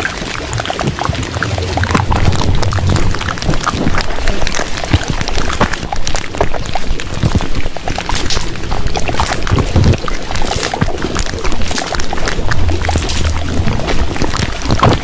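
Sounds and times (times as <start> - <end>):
wet splashy crackling: 0.0 - 15.0.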